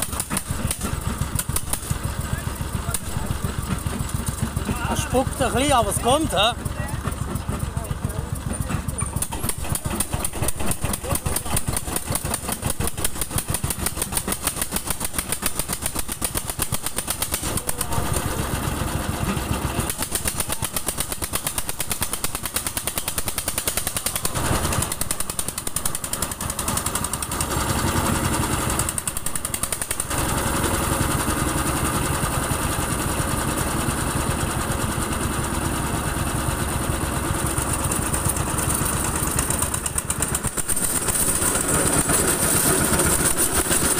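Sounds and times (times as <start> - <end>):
engine chugging: 0.0 - 43.9.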